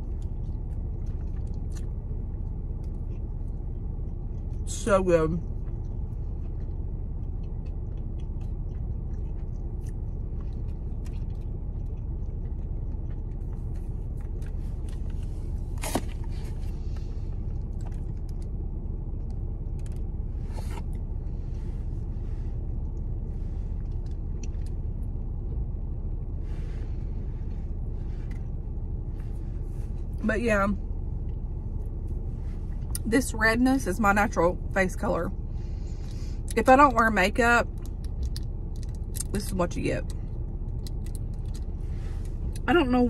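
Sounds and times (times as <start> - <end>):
car idling rumble: 0.0 - 43.0.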